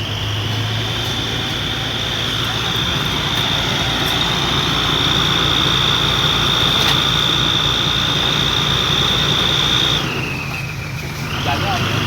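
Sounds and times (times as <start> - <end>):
diesel engine rumble: 0.0 - 12.0
high-pitched machine whine: 0.0 - 12.0.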